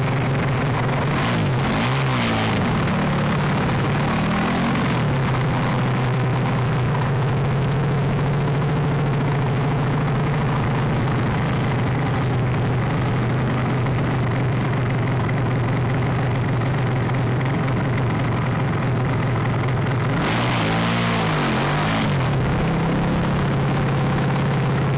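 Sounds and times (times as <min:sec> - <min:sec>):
motorbike engine running: 0:00.0 - 0:24.9.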